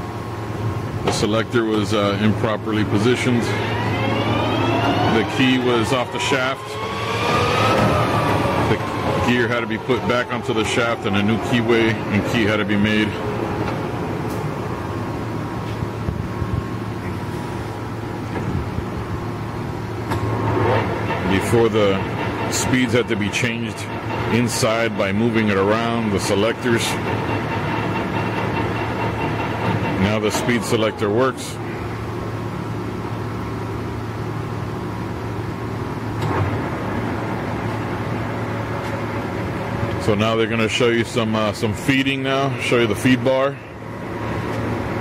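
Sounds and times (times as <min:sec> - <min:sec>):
lathe running with low hum: 0:00.0 - 0:45.0.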